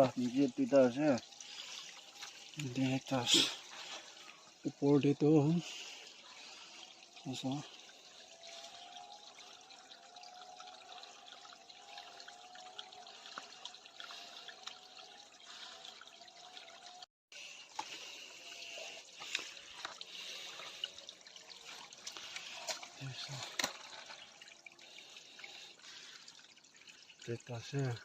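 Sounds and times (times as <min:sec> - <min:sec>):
stream trickling: 0:00.0 - 0:28.0.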